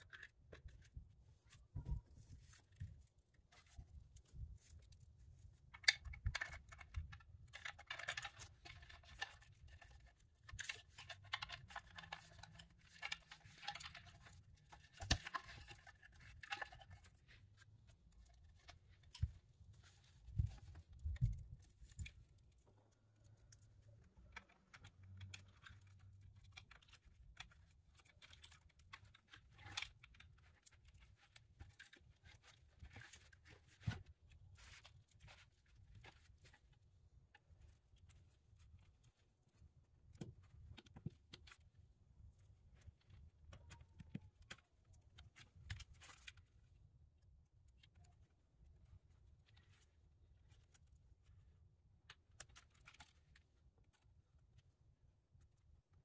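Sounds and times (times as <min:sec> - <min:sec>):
plastic parts clicking and rustling: 0:00.0 - 0:56.0.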